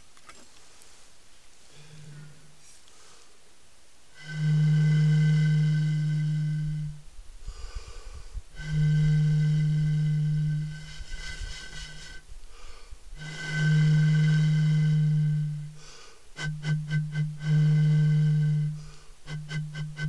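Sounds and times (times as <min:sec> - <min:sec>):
low ambient drone tone: 0:01.7 - 0:03.2, 0:04.1 - 0:20.0.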